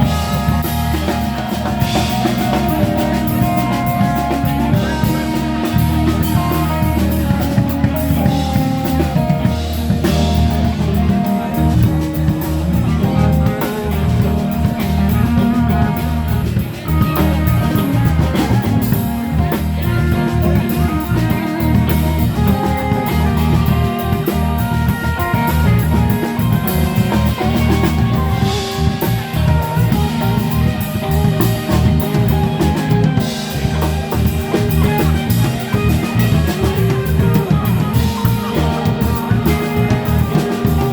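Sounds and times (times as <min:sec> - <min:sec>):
bass guitar: 0:00.0 - 0:40.9
drum kit: 0:00.0 - 0:40.9
electric guitar: 0:00.0 - 0:40.9.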